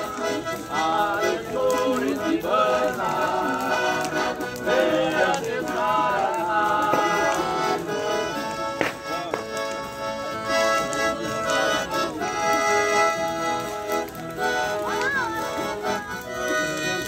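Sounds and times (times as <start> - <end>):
folk band with accordion and guitar: 0.0 - 17.0.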